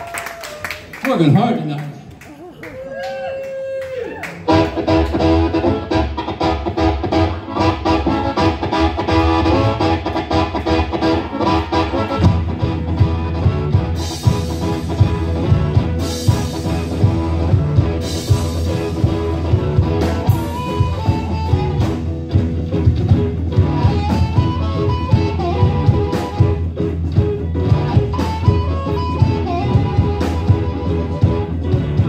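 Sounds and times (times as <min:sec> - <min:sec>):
bass guitar: 0:03.9 - 0:32.0
drum kit beat: 0:04.3 - 0:32.0
lead guitar with bent notes: 0:04.4 - 0:32.0.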